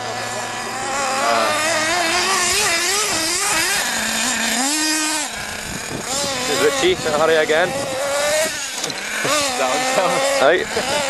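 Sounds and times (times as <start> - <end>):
small rc engine revving: 0.0 - 11.0.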